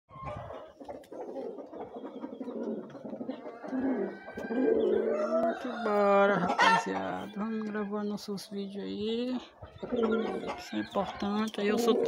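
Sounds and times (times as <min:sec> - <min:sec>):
hen clucking: 0:00.1 - 0:12.0.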